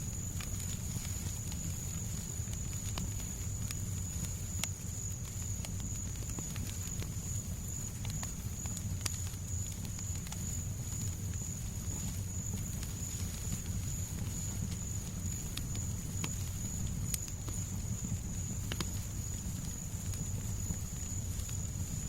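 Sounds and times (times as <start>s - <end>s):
fireplace crackling and popping: 0.0s - 22.0s
low white noise rumble: 0.0s - 22.0s.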